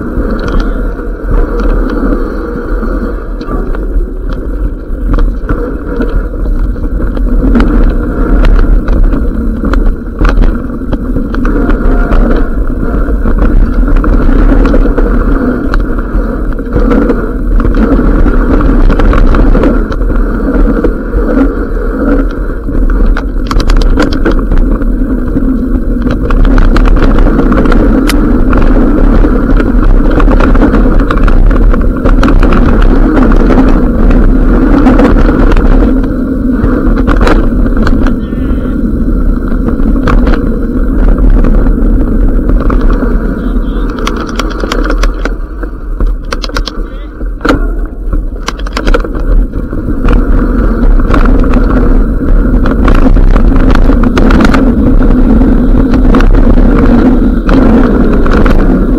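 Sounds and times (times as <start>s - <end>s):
bike knocking and rattling: 0.0s - 58.9s
wind and tyre rumble: 0.0s - 58.9s.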